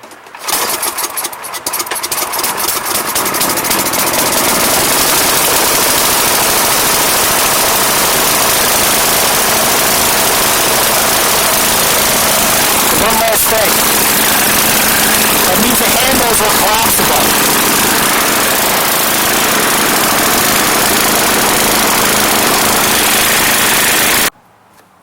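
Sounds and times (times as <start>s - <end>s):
snowblower engine running: 0.2s - 24.3s.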